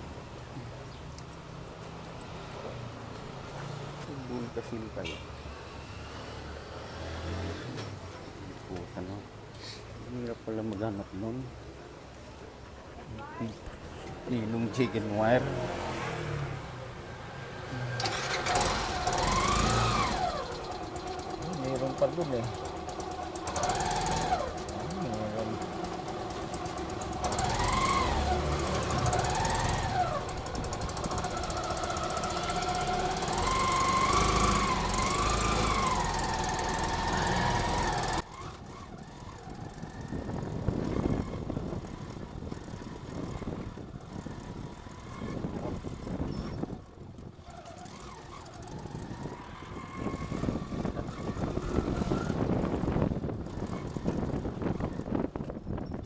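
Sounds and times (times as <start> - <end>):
road rumble: 0.0 - 56.0
vehicle engine: 0.0 - 56.0.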